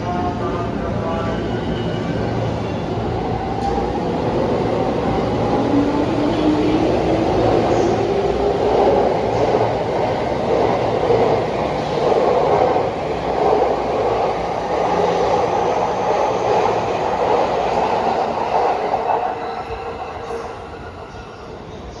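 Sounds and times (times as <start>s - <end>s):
train wheel and running noise: 0.0s - 22.0s.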